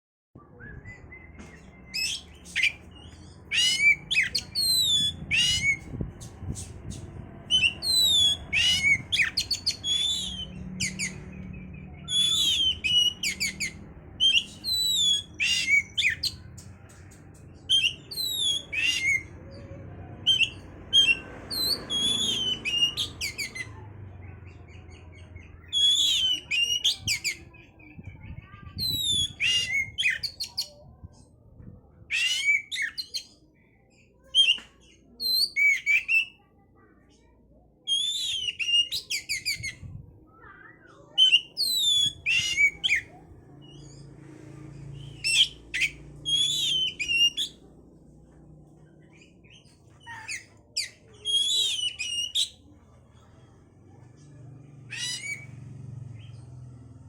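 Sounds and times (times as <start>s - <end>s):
bird singing whistles and chatter: 0.4s - 47.7s, 49.1s - 52.8s, 54.8s - 56.6s.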